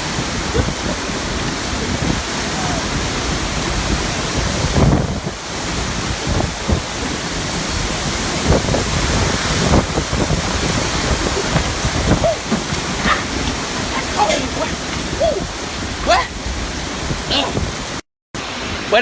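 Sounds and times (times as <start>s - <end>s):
wind buffeting microphone: 0.0s - 18.0s
heavy rain: 0.0s - 19.0s.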